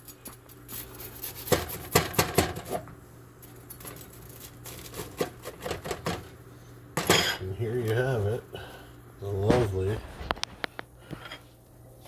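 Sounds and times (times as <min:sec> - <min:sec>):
toast crackling: 0:00.0 - 0:11.2.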